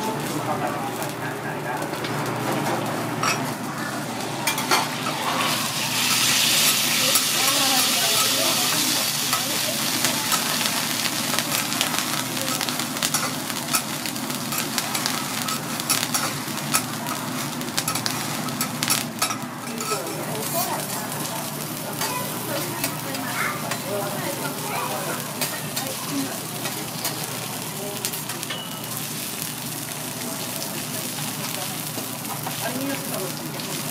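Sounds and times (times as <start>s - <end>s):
food sizzling on griddle: 0.0s - 33.9s.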